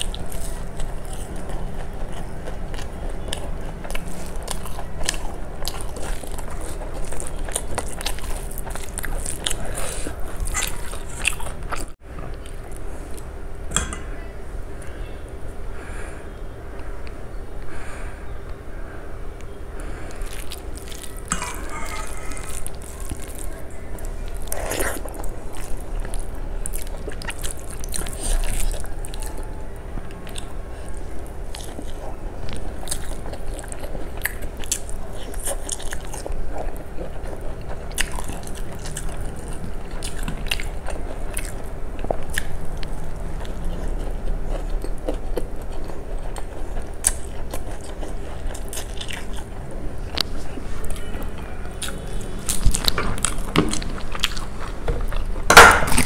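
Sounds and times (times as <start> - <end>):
person chewing food: 0.0 - 18.6, 19.4 - 56.0
faint steady hum: 0.0 - 56.0.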